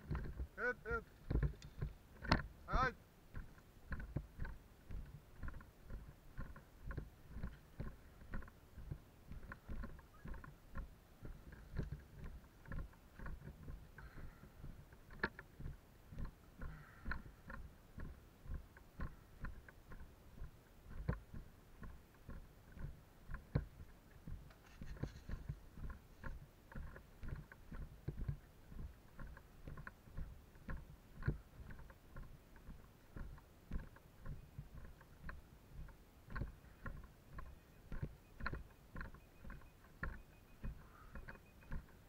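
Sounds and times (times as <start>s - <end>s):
small clicks: 0.0s - 42.0s
light rustling: 3.3s - 42.0s.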